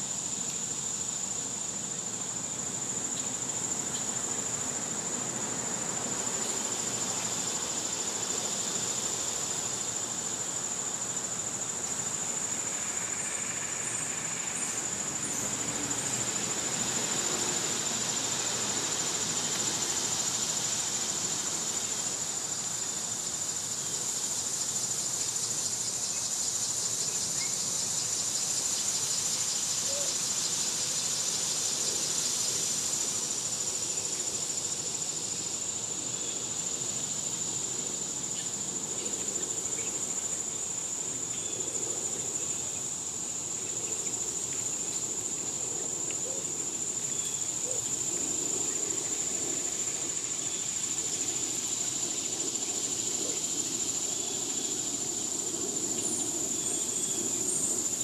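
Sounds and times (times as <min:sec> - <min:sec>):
fast pulsing insect call: 0:00.0 - 0:58.0
high-pitched insect chorus: 0:00.0 - 0:58.0.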